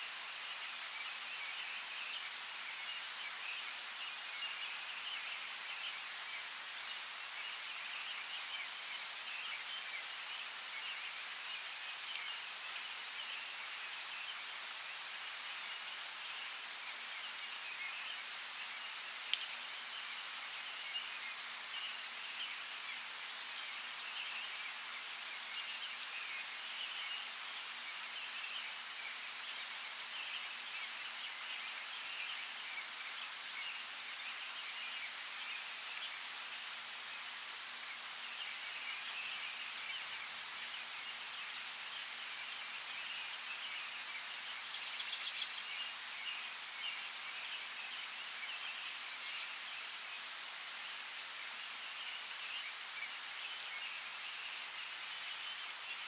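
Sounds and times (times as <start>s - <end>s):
rain pattering: 0.0s - 56.0s
small birds chirping: 0.2s - 56.0s.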